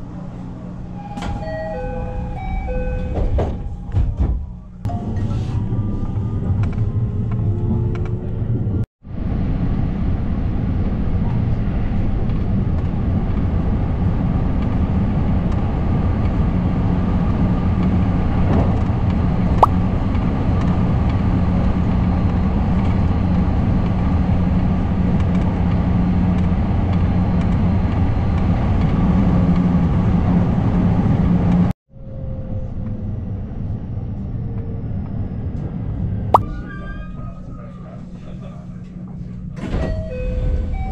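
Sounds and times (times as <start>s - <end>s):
train running low rumble: 0.0s - 40.9s.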